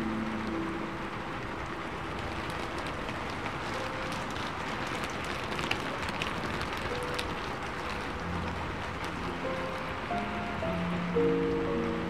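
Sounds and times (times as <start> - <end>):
faint classical music: 0.0 - 12.0
steady rain: 0.0 - 12.0
drops ticking: 1.5 - 12.0.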